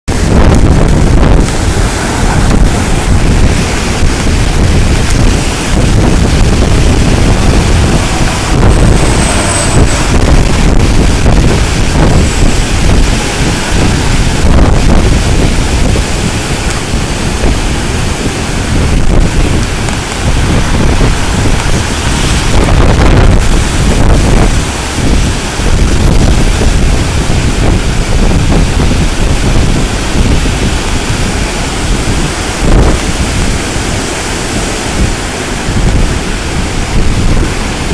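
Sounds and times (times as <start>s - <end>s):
storm surf breaking: 0.1s - 37.9s
wind buffeting microphone: 0.1s - 37.9s.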